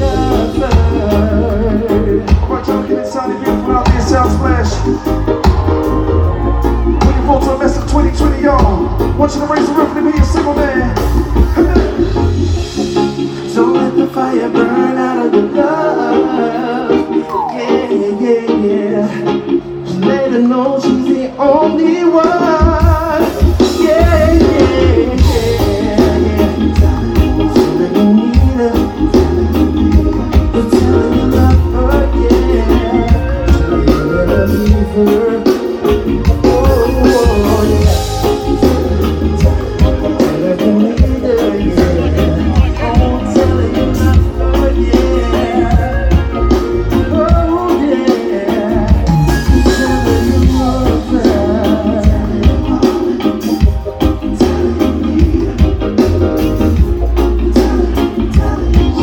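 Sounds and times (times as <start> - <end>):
bass and drums beat: 0.0 - 14.8, 21.6 - 59.0
guitar: 0.0 - 59.0
live band playing: 0.0 - 59.0
person singing: 0.0 - 59.0.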